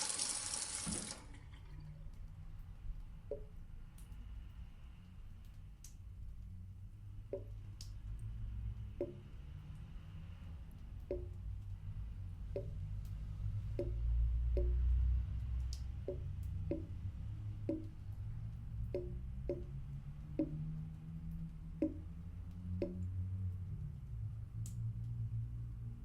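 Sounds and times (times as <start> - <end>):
water dripping into sink: 0.0 - 25.9
low steady hum: 0.0 - 26.0.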